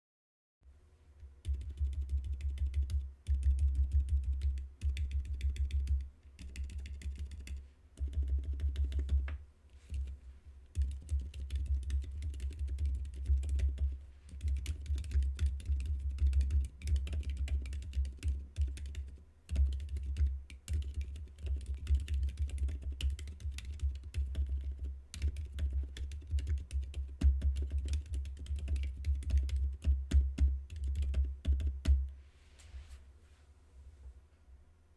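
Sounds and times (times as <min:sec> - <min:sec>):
muffled keyboard typing: 0:01.4 - 0:32.0.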